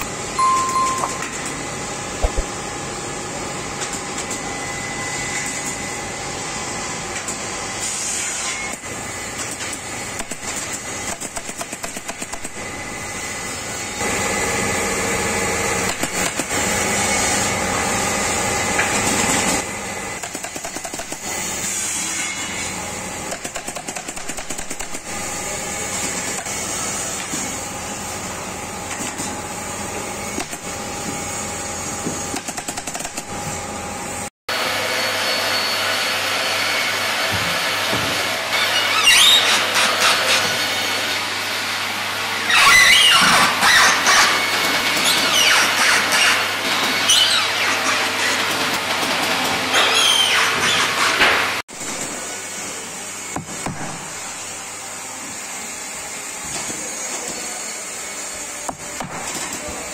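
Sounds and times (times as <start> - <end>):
workshop noise: 0.0 - 59.9.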